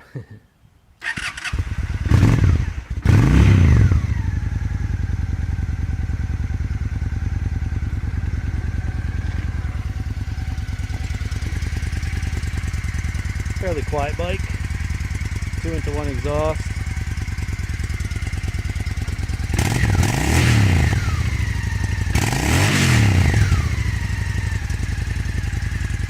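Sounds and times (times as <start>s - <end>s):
motorcycle engine revving: 1.0s - 26.0s
motorcycle engine starting: 1.0s - 26.0s
motorcycle engine idling: 1.4s - 26.0s.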